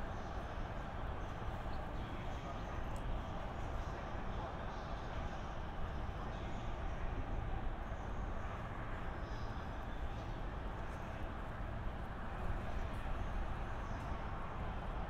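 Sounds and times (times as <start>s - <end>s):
slow train rumbling: 0.0s - 15.0s.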